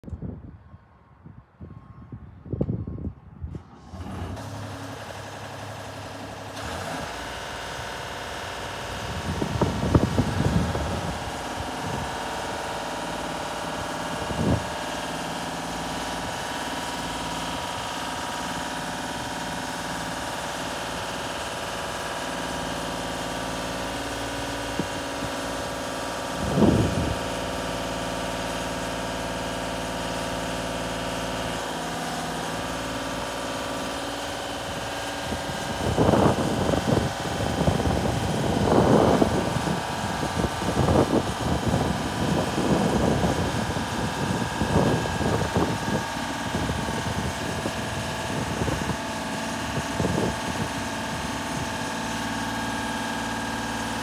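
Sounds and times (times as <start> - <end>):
diesel engine running: 2.6 - 54.0.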